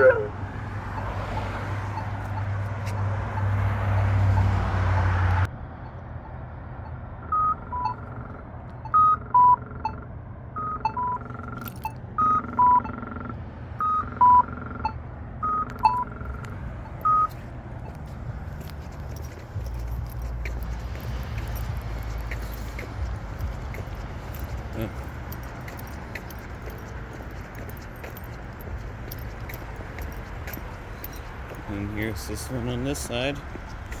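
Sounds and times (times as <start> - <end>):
pedestrian signal chirping beeps: 0.0 - 5.3, 5.9 - 34.0
passing traffic: 0.0 - 34.0.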